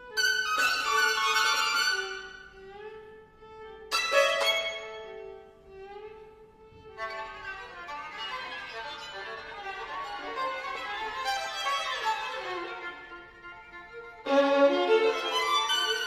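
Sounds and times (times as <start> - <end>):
violin duo: 0.0 - 16.0.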